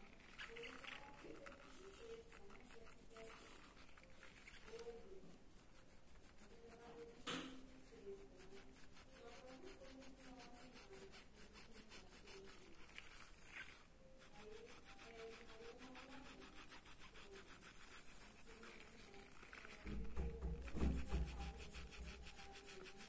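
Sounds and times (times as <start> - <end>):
pencil scratching on paper: 0.0 - 23.0.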